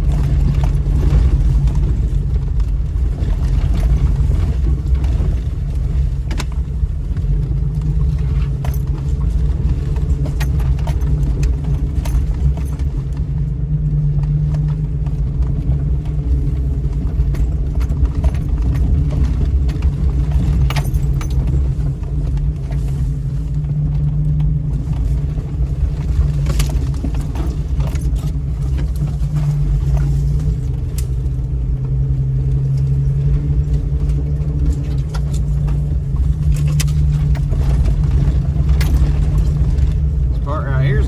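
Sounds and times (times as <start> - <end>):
low engine drone: 0.0 - 41.0.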